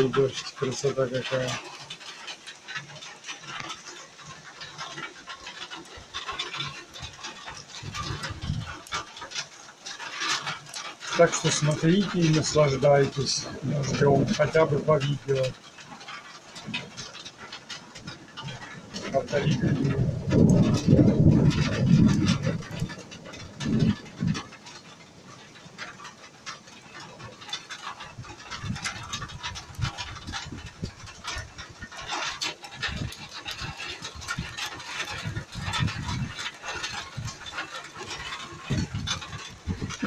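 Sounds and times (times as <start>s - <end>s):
heavy rain patter: 0.0s - 40.0s.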